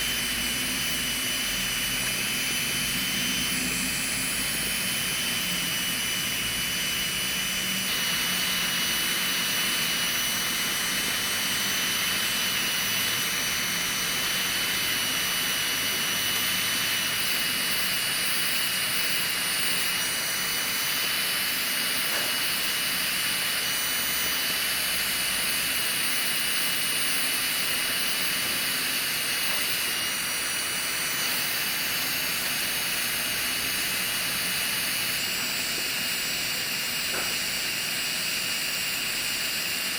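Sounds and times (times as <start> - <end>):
electric drill high thin whine: 0.0 - 39.9.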